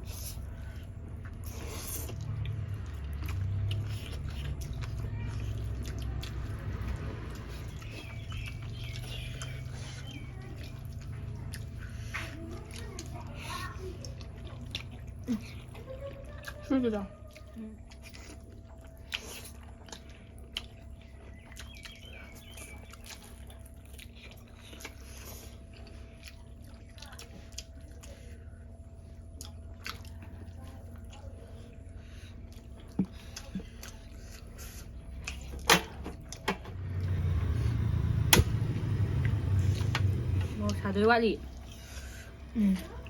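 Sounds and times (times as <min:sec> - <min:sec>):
close chewing of noodles: 0:00.0 - 0:43.0.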